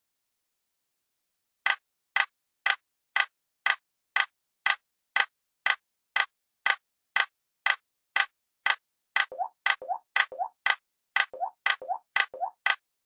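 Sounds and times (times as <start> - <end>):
sharp ticking: 1.7 - 12.8.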